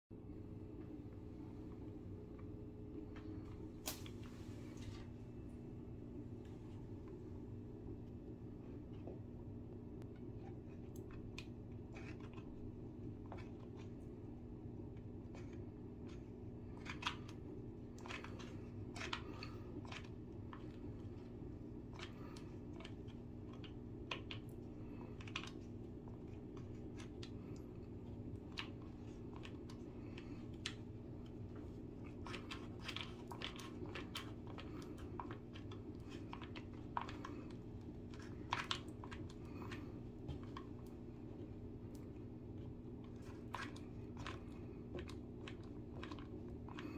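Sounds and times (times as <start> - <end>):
steady low hum: 0.1 - 46.9.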